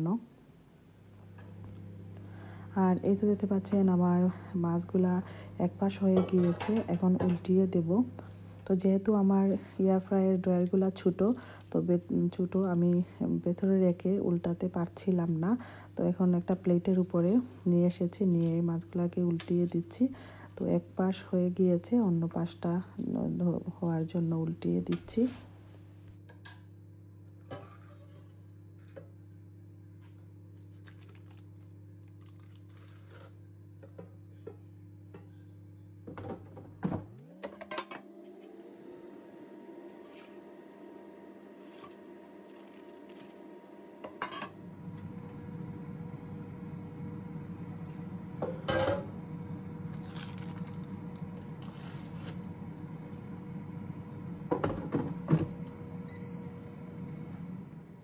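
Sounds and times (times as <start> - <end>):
kitchen appliance humming: 0.0 - 58.0.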